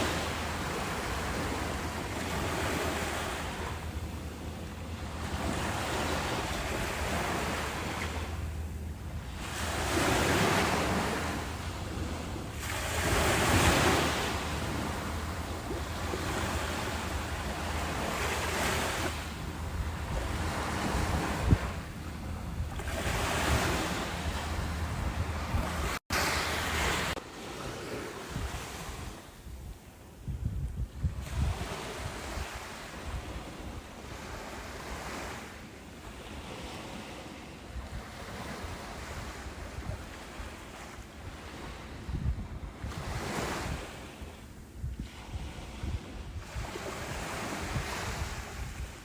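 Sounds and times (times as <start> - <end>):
ocean waves breaking: 0.0 - 30.2, 31.2 - 49.0
wind rumble on microphone: 0.0 - 49.0.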